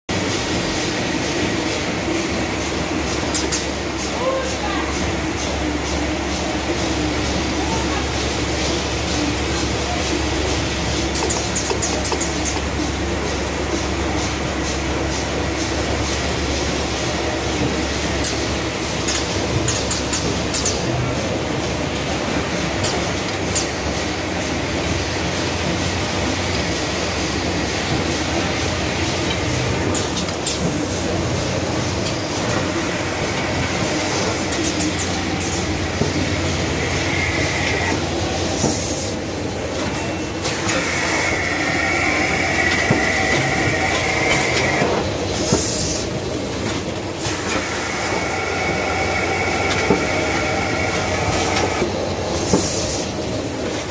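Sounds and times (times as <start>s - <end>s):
packing machine clatter and hum: 0.1s - 53.9s.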